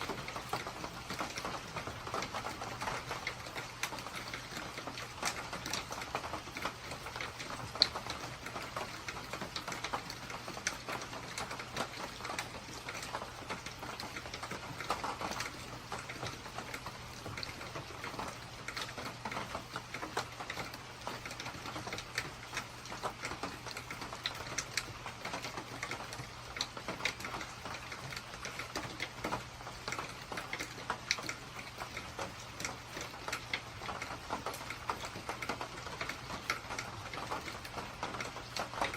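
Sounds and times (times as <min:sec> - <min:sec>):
heavy rain patter: 0:00.0 - 0:38.9.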